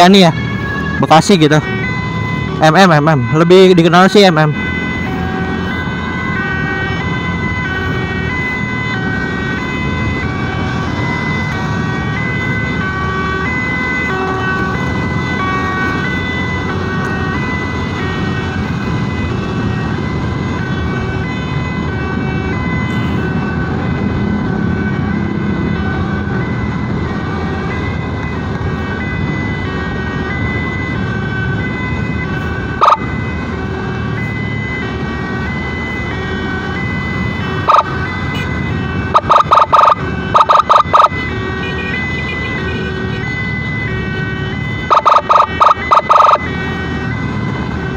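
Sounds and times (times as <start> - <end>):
traffic engine and road noise: 0.0 - 47.9
two-tone emergency siren: 0.0 - 47.9.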